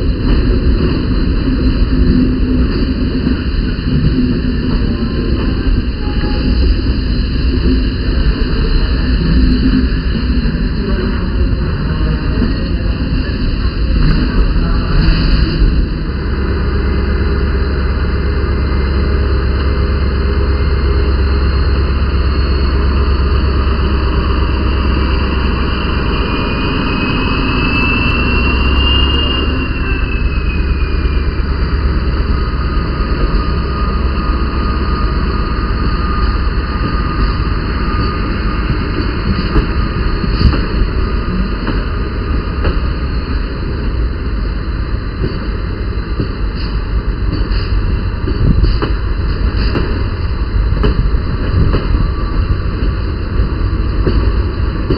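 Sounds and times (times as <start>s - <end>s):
locomotive engine drone: 0.0s - 54.9s
locomotive whine: 0.0s - 54.9s.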